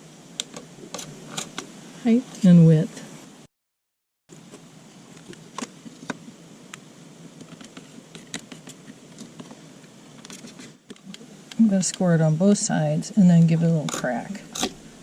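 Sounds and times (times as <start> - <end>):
faint room hum: 0.0 - 3.5, 4.3 - 15.0.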